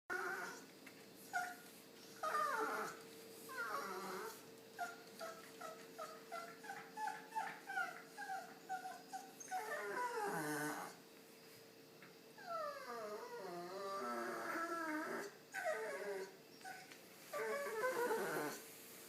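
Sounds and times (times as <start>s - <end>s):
dog whining and whimpering: 0.1s - 11.0s, 12.4s - 18.6s.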